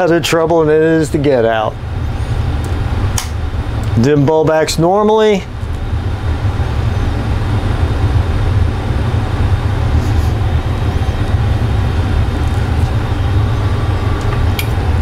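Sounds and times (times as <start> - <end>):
steady low rumbling: 0.0 - 15.0.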